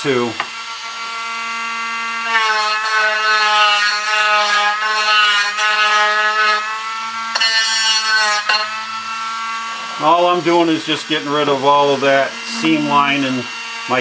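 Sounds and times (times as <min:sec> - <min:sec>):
rotary tool whining: 0:00.2 - 0:14.0
bit rasping on wood: 0:00.4 - 0:13.9.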